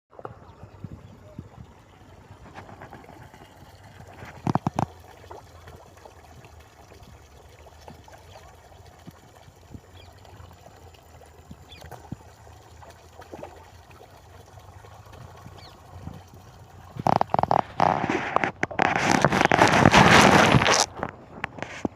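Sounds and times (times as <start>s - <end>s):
fish splashing at water surface: 0.2s - 21.9s.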